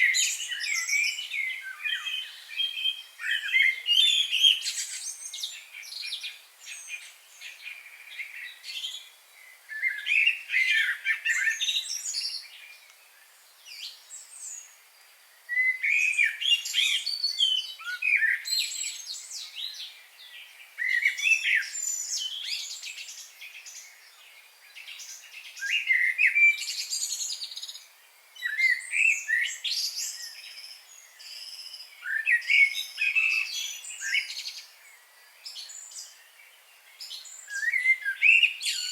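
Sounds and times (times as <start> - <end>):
songbirds chirping and warbling: 0.0 - 38.9.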